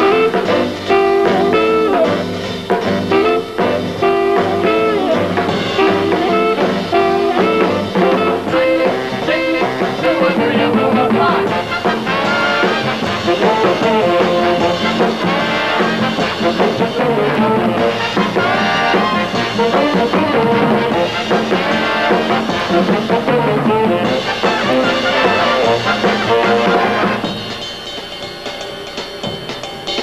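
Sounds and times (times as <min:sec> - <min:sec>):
brass band dance music: 0:00.0 - 0:30.0.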